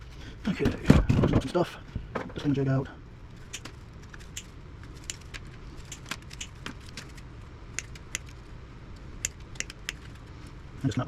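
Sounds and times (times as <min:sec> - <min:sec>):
steady low background hum: 0:00.0 - 0:11.0.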